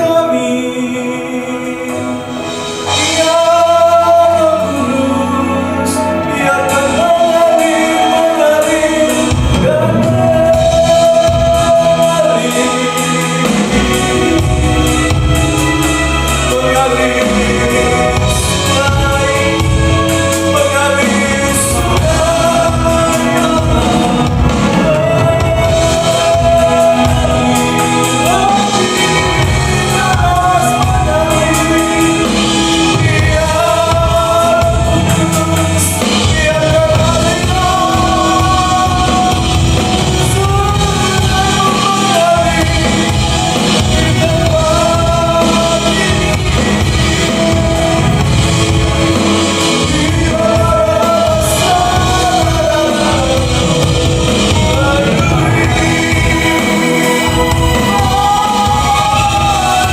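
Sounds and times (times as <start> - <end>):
band accompaniment: 0.0 - 59.9
person singing worship song: 0.0 - 59.9.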